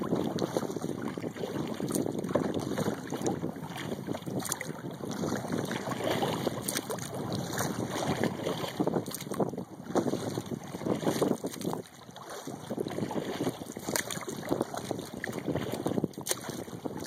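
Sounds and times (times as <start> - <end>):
water lapping at a kayak: 0.0 - 17.0
wind buffeting microphone: 0.0 - 17.0.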